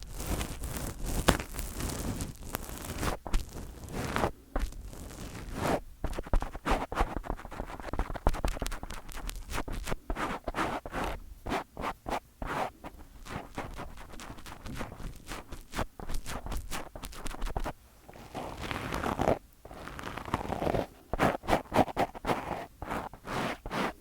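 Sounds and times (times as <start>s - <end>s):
fingers scratching on microphone: 0.0s - 24.0s.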